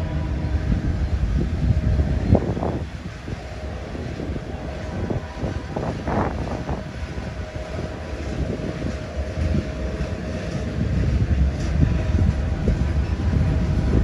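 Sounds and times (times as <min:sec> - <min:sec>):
freight train wheels rumbling: 0:00.0 - 0:14.0
train knocks and rattles: 0:00.0 - 0:14.0.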